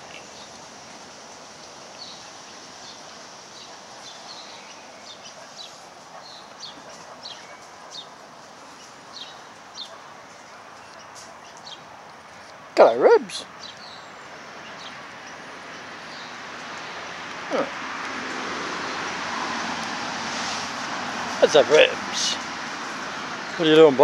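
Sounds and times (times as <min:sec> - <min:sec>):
small birds chirping: 0:00.0 - 0:19.5
outdoor hiss: 0:00.0 - 0:24.0.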